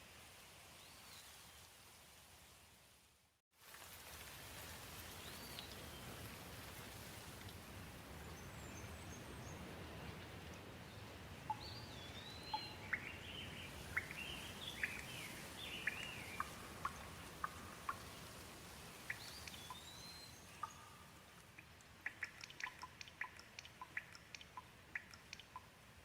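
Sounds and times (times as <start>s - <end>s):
gentle steady rain: 0.0s - 26.0s.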